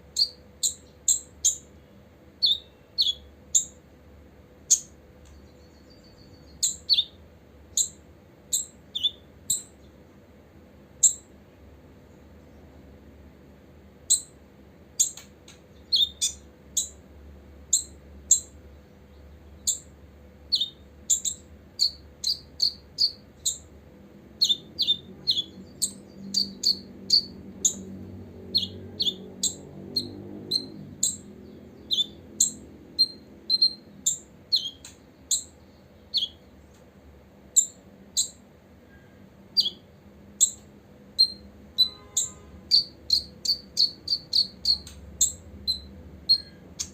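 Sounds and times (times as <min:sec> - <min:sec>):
sunbird chirping: 0:00.0 - 0:03.8, 0:04.6 - 0:10.0, 0:11.0 - 0:11.3, 0:14.1 - 0:14.4, 0:15.0 - 0:17.0, 0:17.7 - 0:36.7, 0:37.5 - 0:46.9.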